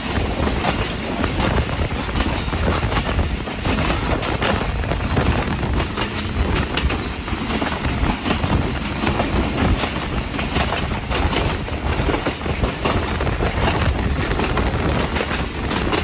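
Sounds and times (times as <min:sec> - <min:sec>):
train rumbling along track: 0:00.0 - 0:16.0
wheels clicking over rail joints: 0:00.0 - 0:16.0.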